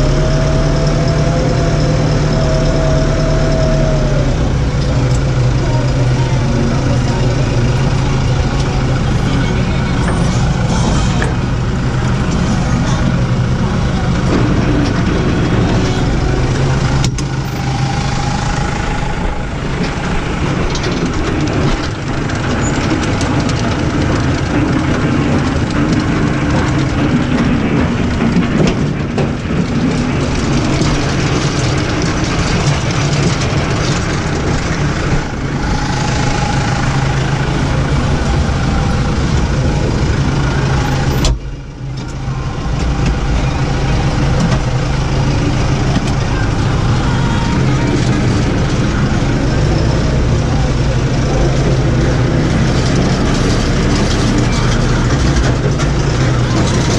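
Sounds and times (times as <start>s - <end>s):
clatter of machinery: 0.0s - 56.9s
tractor diesel engine under load: 0.0s - 56.9s.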